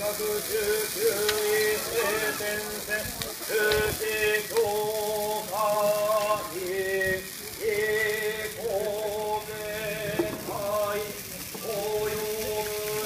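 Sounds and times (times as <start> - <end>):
fire hissing: 0.0 - 13.0.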